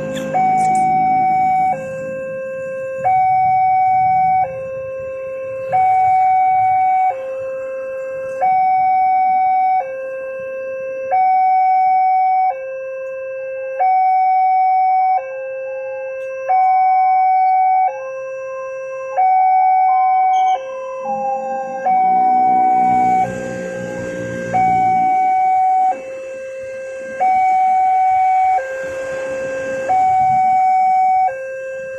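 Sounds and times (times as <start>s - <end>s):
level crossing two-tone alarm: 0.0s - 31.9s.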